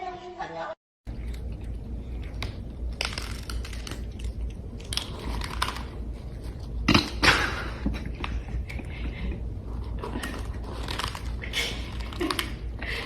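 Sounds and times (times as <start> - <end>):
crunching chewing: 1.1 - 13.0
steady low hum: 1.1 - 13.0.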